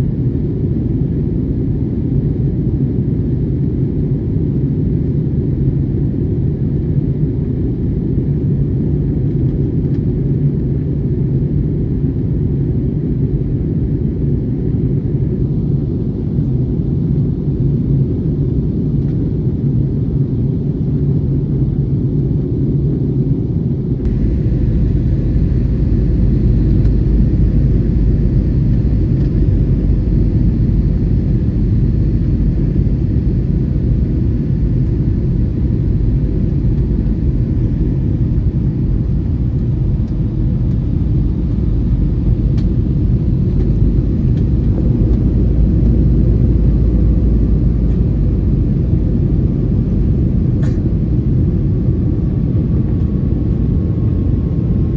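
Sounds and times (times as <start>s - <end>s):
aircraft cabin engine rumble: 0.0s - 54.9s.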